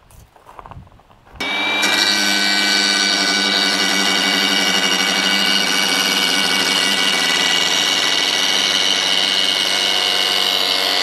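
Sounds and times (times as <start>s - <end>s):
angle grinder whining: 1.4s - 11.0s.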